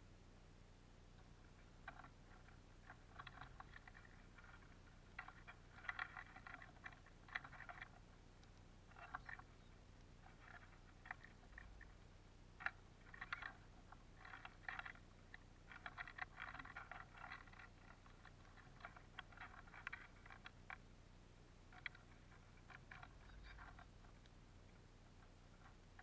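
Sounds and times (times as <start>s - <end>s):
birds cracking seeds: 1.2s - 20.9s, 21.7s - 26.0s.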